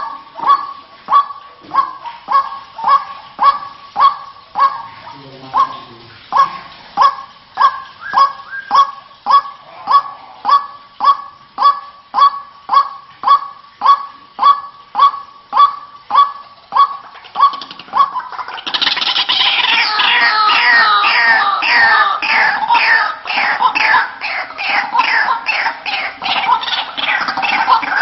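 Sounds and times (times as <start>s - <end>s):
waterhen honking call: 0.0s - 28.0s.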